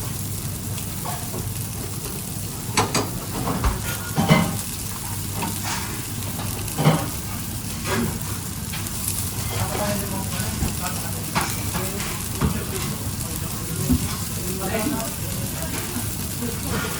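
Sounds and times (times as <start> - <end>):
food sizzling in a pan: 0.0 - 16.9.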